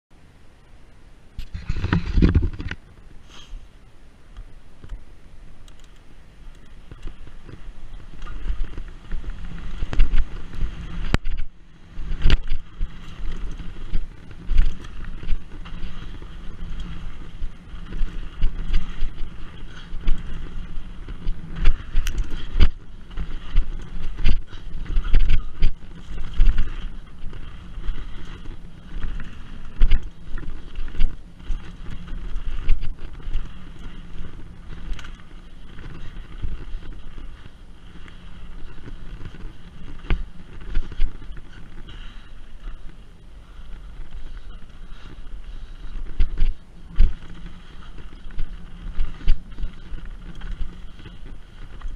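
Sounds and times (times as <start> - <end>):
bike tyres on dirt: 0.1 - 51.9
bike knocks and rattles: 1.4 - 3.0, 6.7 - 51.9
wind on microphone: 1.4 - 3.1, 6.6 - 51.9.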